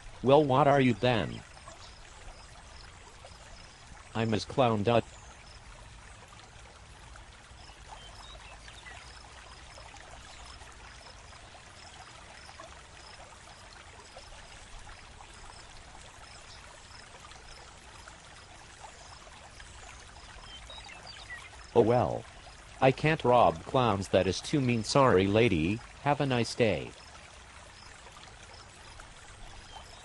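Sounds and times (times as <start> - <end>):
faint background hiss: 0.0 - 30.0.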